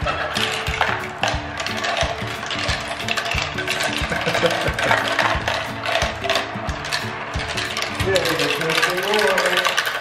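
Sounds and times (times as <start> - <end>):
background music with beat: 0.0 - 10.0
marbles rolling on plastic track: 0.0 - 10.0.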